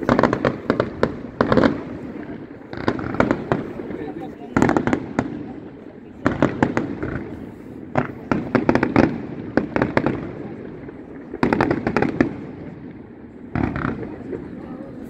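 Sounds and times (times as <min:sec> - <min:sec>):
fireworks bursting with crackles: 0:00.0 - 0:15.0.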